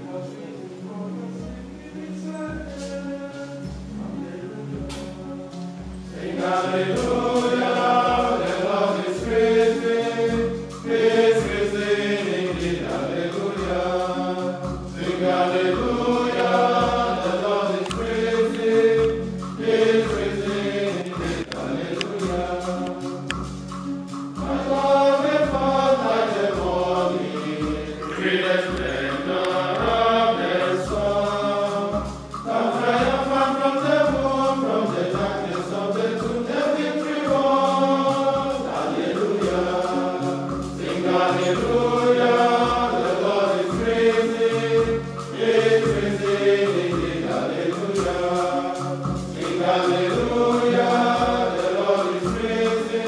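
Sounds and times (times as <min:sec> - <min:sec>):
male choir chanting: 0:00.0 - 0:04.9, 0:06.0 - 0:23.3, 0:24.4 - 0:53.0
steady low beat: 0:04.8 - 0:53.0.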